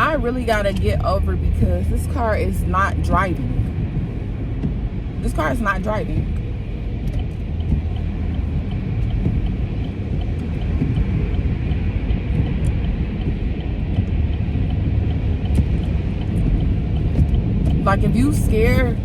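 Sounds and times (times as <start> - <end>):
road and engine rumble in car: 0.0 - 19.0
turn signal ticking: 0.0 - 19.0.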